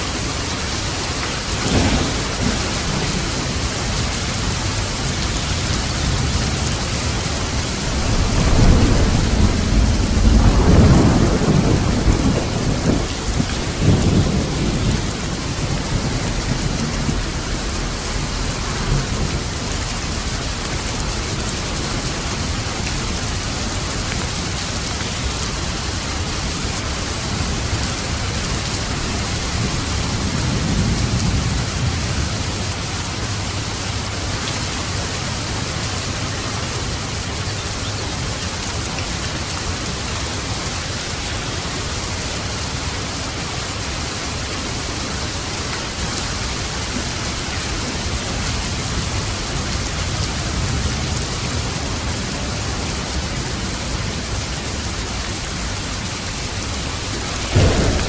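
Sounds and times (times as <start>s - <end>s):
steady rain: 0.0s - 58.0s
thunder rumbling: 0.1s - 36.2s, 46.0s - 58.0s.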